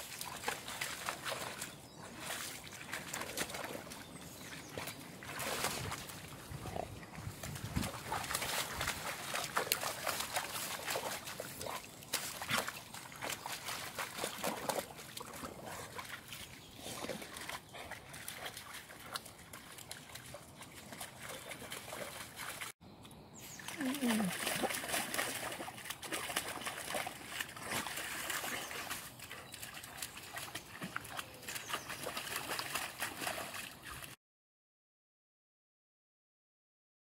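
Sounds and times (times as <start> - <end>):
dog splashing in puddle: 0.0 - 22.8, 23.5 - 34.2.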